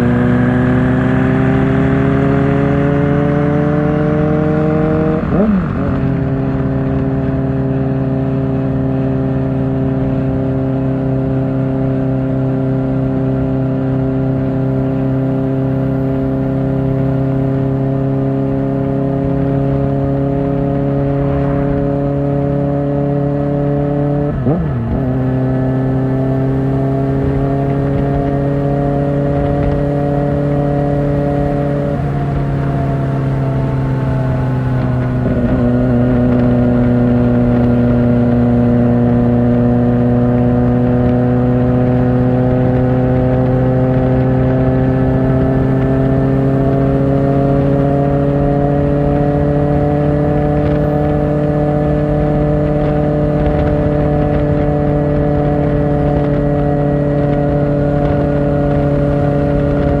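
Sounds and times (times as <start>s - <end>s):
motorcycle engine accelerating: 0.0s - 60.0s.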